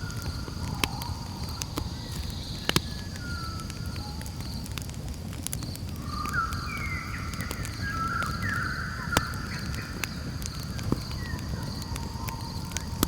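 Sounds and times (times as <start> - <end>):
campfire crackling: 0.0 - 13.0
sharp fire pops: 0.0 - 13.0.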